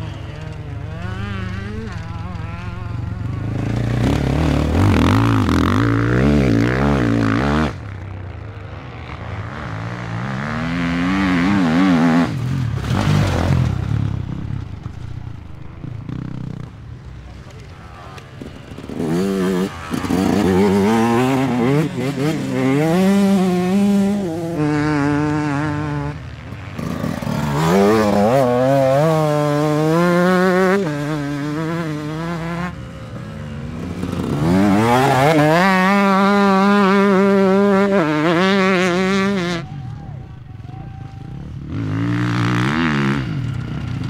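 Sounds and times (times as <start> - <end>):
dirt bike engines accelerating: 0.0 - 44.0.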